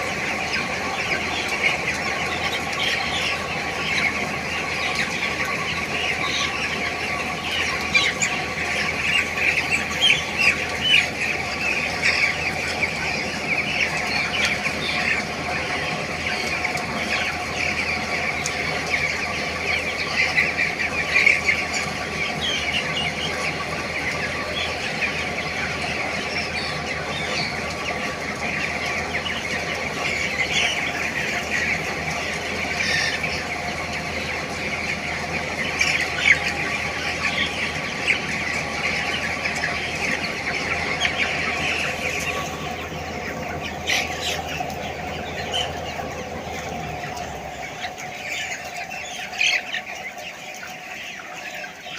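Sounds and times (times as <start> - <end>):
chickens peeping and chattering: 0.0 - 51.9
steady mechanical hum: 0.0 - 51.9.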